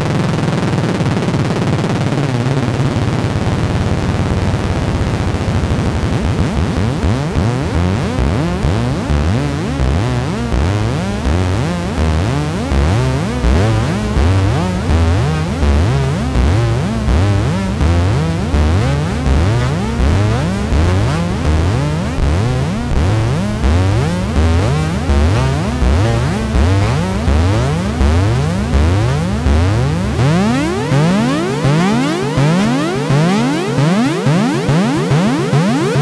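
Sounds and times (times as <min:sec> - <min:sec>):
synthesizer low pulsing pattern: 0:06.0 - 0:36.0.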